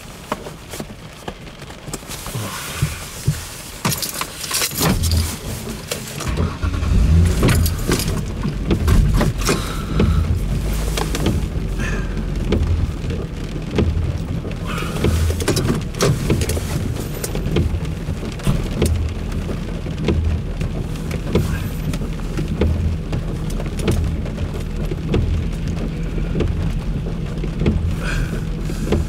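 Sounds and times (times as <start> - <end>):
rain pattering on car roof: 0.0 - 29.0.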